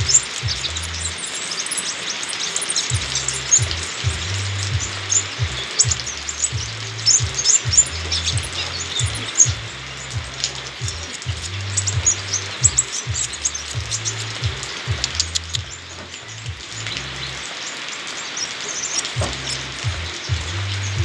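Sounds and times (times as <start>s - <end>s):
background music with bass line: 0.0s - 1.3s, 2.9s - 17.5s, 19.2s - 21.0s
bird chirping high notes: 0.0s - 21.0s.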